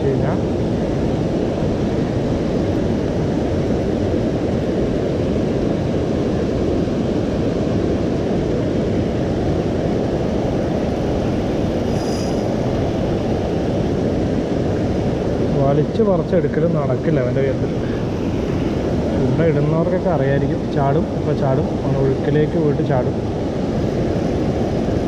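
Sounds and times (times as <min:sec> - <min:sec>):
fast-flowing river rushing: 0:00.0 - 0:25.0.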